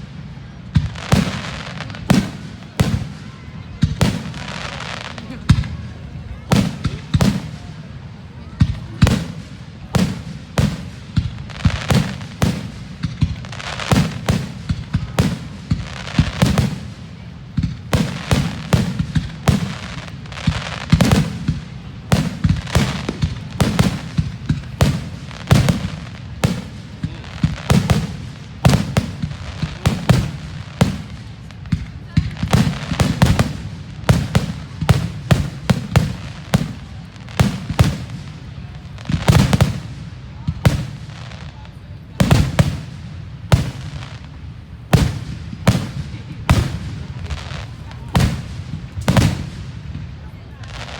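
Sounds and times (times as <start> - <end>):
fireworks shells booming: 0.0 - 7.9, 8.5 - 50.9.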